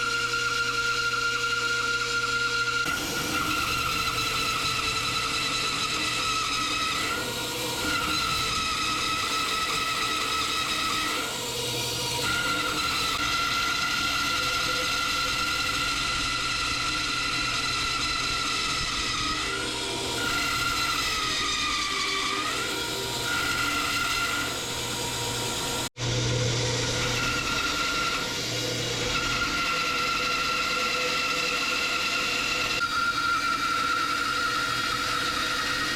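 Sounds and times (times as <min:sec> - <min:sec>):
bandsaw cutting wood: 0:02.8 - 0:35.9.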